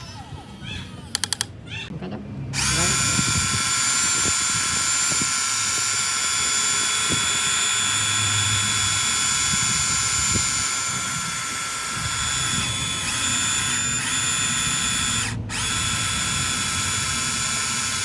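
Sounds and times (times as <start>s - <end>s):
electric motors whining: 0.0s - 18.0s.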